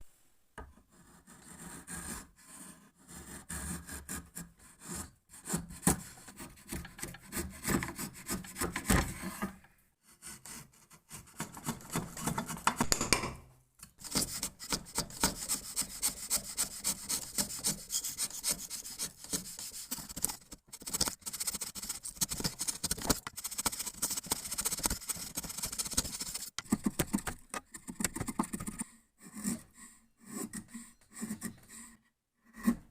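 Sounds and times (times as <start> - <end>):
chisel scraping wood: 0.9 - 13.0, 13.8 - 32.9.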